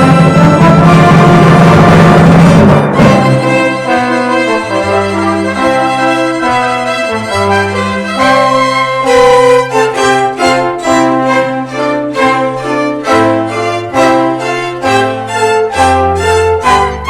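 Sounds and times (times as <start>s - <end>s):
orchestra playing carols: 0.0s - 17.0s.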